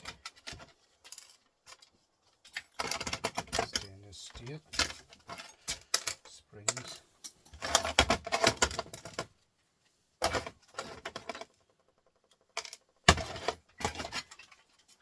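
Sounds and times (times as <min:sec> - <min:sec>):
metal scraps clinking and rattling: 0:00.0 - 0:09.4, 0:10.2 - 0:15.0.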